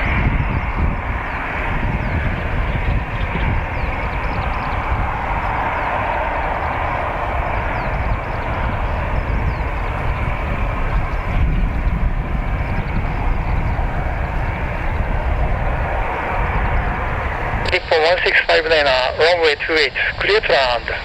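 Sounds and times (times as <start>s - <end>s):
distant jet engine noise: 0.0s - 21.0s
low rumble: 0.0s - 21.0s.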